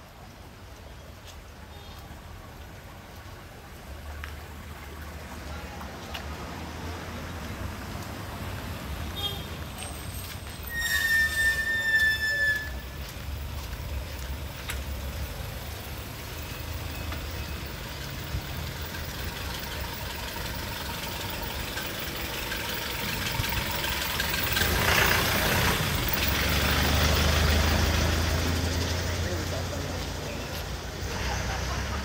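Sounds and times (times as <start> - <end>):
vehicle engine rumble: 0.0 - 32.0.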